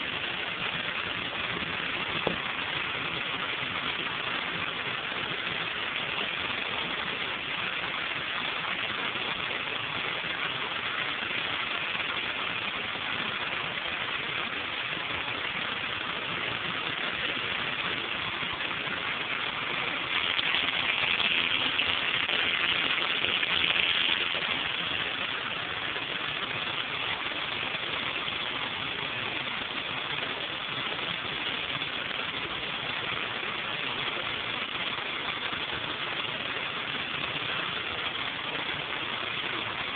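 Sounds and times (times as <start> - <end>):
pressure washer engine: 0.0 - 39.9
water jet hissing on concrete: 0.0 - 39.9.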